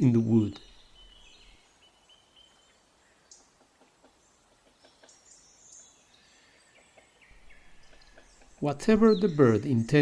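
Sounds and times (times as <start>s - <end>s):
distant bird chirps: 0.0s - 10.0s.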